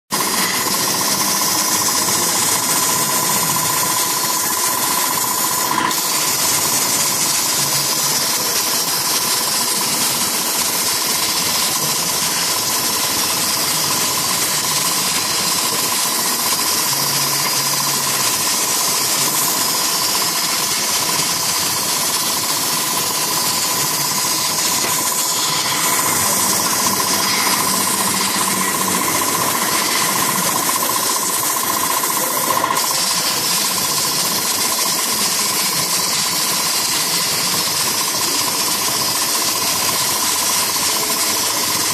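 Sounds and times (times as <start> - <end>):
plasma cutter arc hissing: 0.1 - 41.9.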